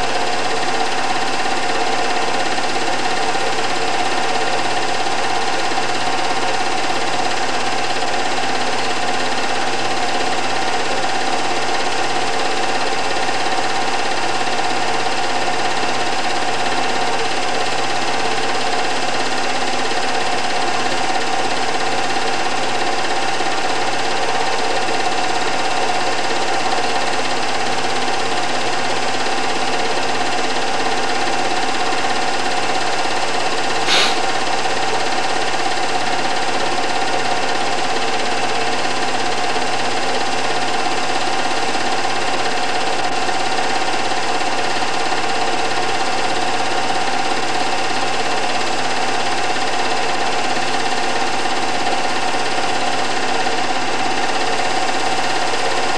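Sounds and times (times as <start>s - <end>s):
film projector clatter: 0.0s - 55.9s.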